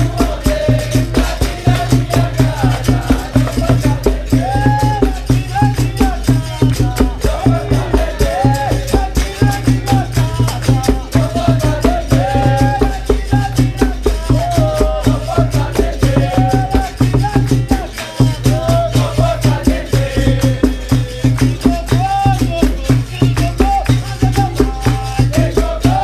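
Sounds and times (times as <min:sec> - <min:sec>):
hand percussion beat: 0:00.0 - 0:26.0
voices singing: 0:00.0 - 0:26.0.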